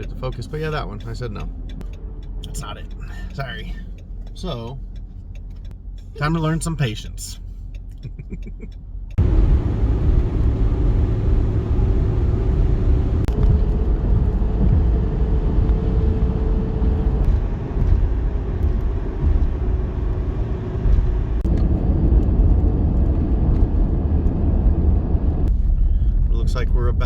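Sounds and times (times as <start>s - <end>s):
truck cabin road rumble: 0.0s - 27.0s.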